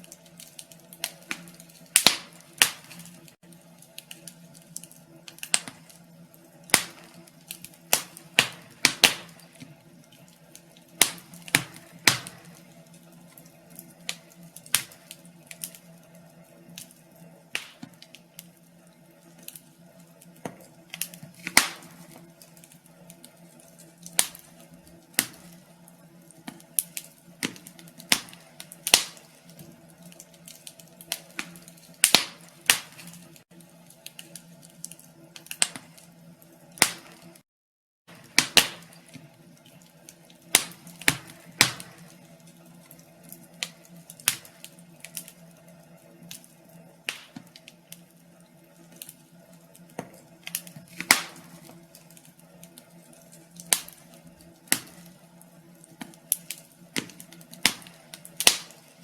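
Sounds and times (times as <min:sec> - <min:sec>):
fire crackling and popping: 0:00.0 - 0:37.4, 0:38.1 - 0:59.0.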